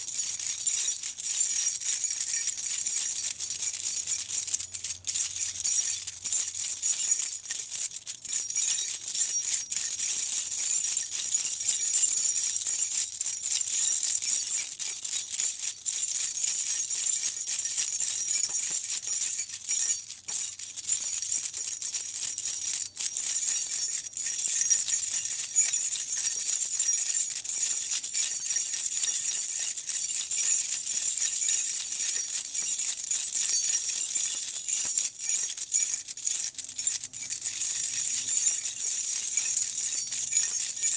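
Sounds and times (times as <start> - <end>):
metal keys jangling: 0.0 - 10.4, 16.7 - 40.9.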